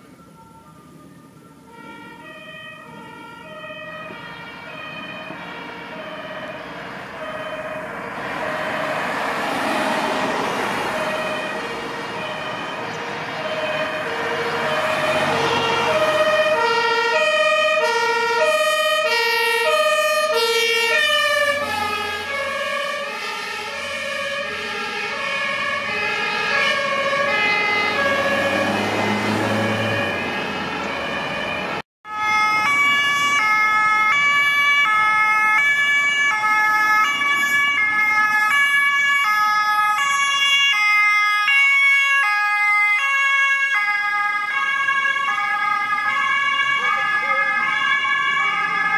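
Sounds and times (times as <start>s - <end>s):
fire engine two-tone siren: 0.0s - 48.9s
police van two-tone siren: 0.0s - 48.9s.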